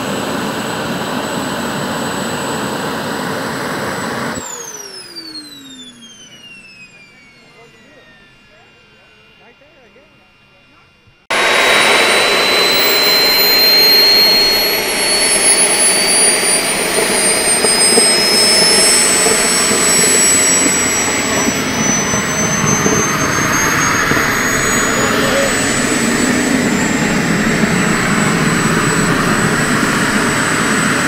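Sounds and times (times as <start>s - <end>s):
model jet turbines whining: 0.0s - 31.0s.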